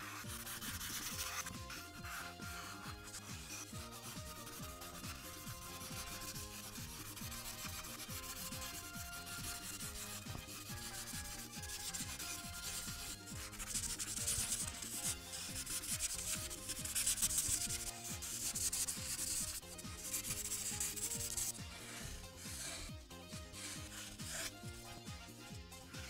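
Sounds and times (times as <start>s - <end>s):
marker scrubbing on paper: 0.0s - 26.0s.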